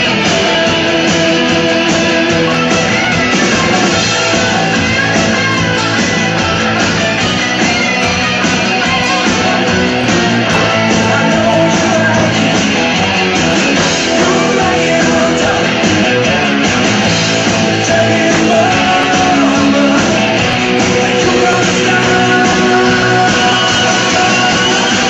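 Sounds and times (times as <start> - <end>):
country music with guitar: 0.0 - 25.0.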